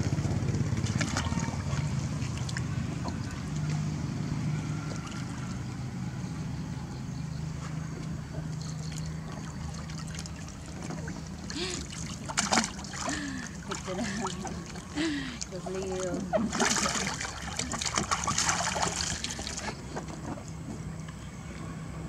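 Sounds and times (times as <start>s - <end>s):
water splashing and trickling: 0.1s - 21.7s.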